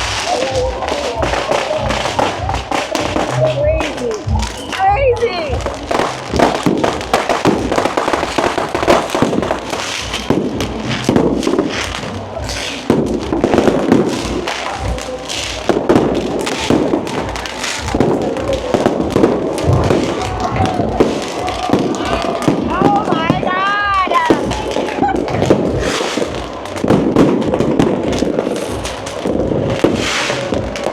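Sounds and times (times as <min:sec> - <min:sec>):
fireworks bangs and crackles: 0:00.0 - 0:30.9
music: 0:00.0 - 0:30.9
voices: 0:00.0 - 0:30.9.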